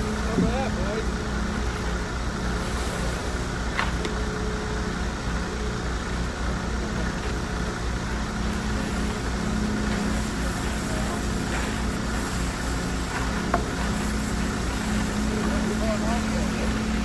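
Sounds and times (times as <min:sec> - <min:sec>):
engine low pulsing drone: 0:00.0 - 0:17.0.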